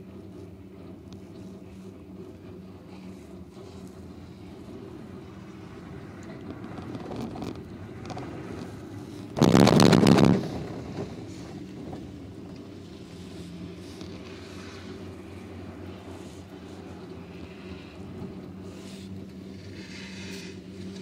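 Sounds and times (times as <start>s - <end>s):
low hum of cabin and rope: 0.0s - 21.0s
gondola clattering over rollers: 4.1s - 21.0s.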